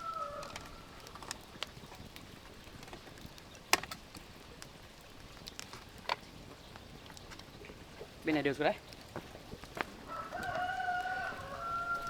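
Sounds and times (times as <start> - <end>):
sharp fire snaps: 0.0 - 12.0
wood fire crackling: 0.0 - 12.0.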